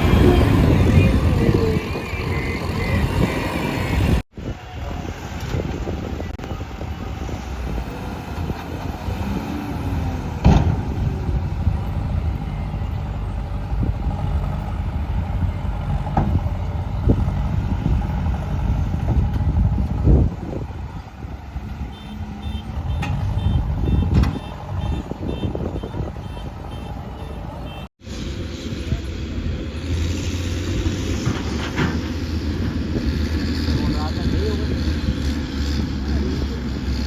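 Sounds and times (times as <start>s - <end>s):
diesel engines running: 0.0s - 37.0s.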